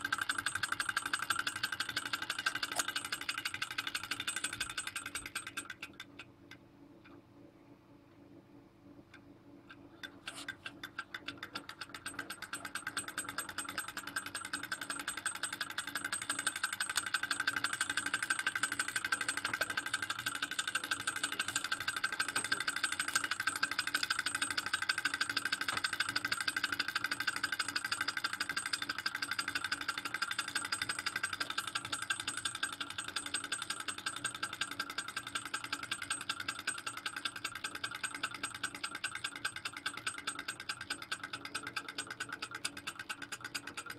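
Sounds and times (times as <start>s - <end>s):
model engine mechanical rattle: 0.0s - 6.2s, 9.7s - 43.9s.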